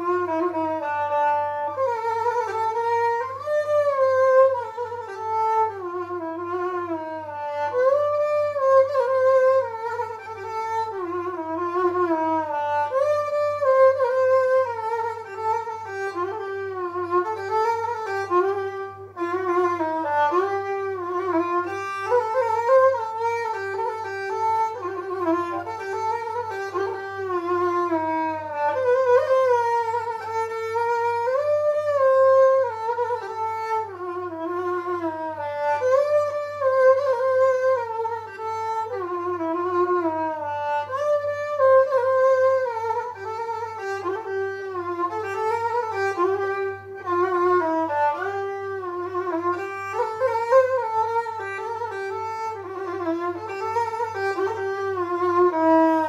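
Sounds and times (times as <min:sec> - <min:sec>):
solo violin melody: 0:00.0 - 0:56.0
steady low hum: 0:00.0 - 0:56.0.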